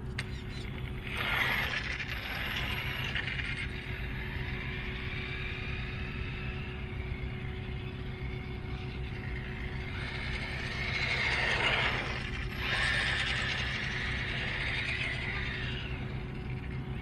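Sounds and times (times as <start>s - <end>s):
electric motor whining: 1.0s - 16.5s.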